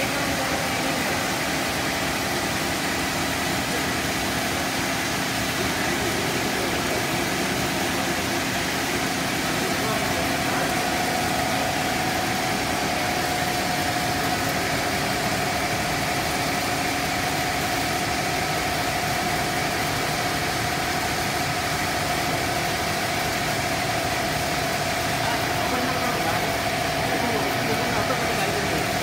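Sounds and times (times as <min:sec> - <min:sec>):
mid-pitched machine whine: 0:00.0 - 0:29.0.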